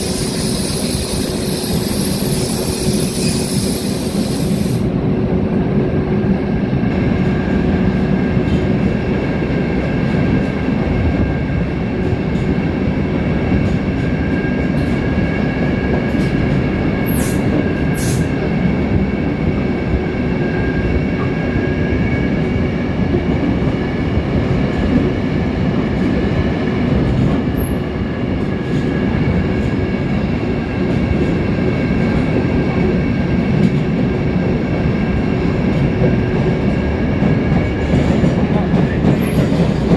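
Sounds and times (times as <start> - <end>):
train rumbling through tunnel: 0.0 - 39.9.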